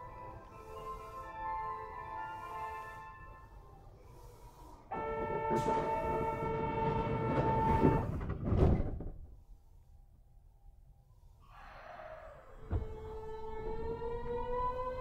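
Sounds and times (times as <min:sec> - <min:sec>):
electric train whine: 0:00.0 - 0:08.4, 0:10.5 - 0:15.0
train door and air noise: 0:00.0 - 0:10.4, 0:11.0 - 0:15.0.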